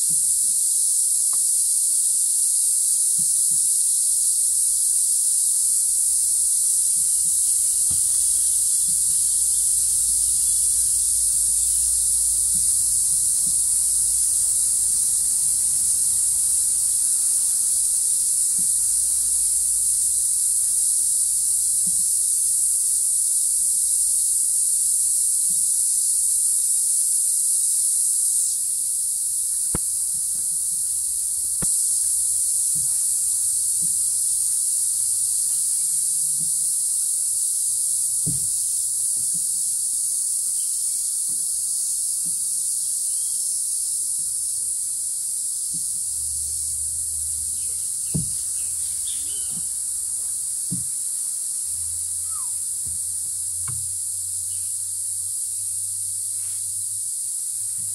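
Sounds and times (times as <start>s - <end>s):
insects shrilling: 0.0s - 53.0s, 53.6s - 57.8s.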